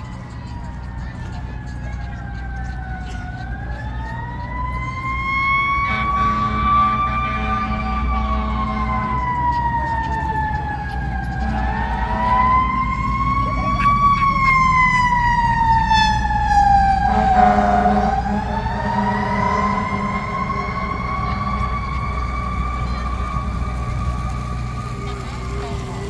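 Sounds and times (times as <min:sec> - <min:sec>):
low engine rumble: 0:00.0 - 0:26.0
siren wailing: 0:00.0 - 0:26.0.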